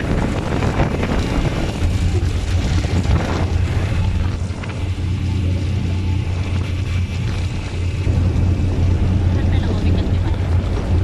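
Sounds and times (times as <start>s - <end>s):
ship engines droning: 0.0s - 11.0s
wind buffeting microphone: 0.0s - 11.0s.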